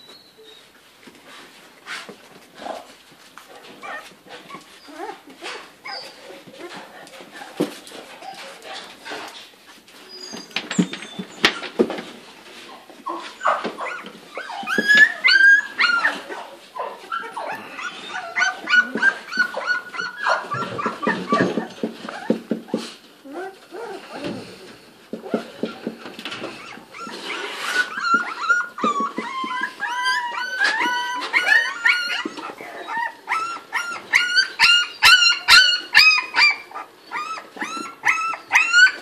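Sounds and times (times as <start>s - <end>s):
puppies whimpering and squealing: 0.0s - 0.8s, 3.7s - 6.9s, 10.0s - 11.9s, 13.0s - 39.0s.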